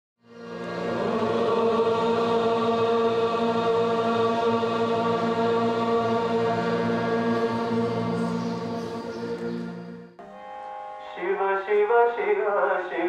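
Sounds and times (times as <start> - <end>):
devotional chant: 0.6 - 9.7, 11.0 - 13.0.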